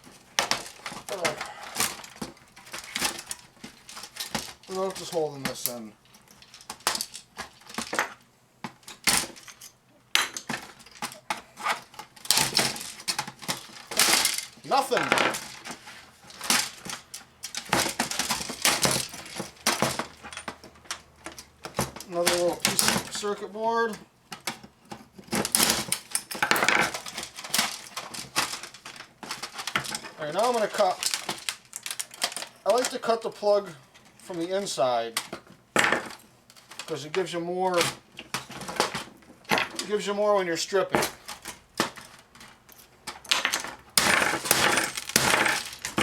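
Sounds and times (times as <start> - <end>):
plastic and metal parts clattering: 0.0 - 46.0.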